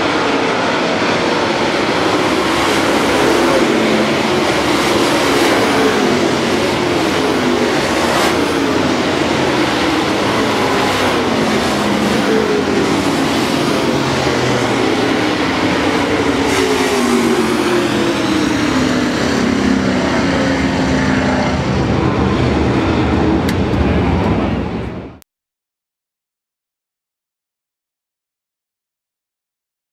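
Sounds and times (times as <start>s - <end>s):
race car engines passing: 0.0s - 25.2s.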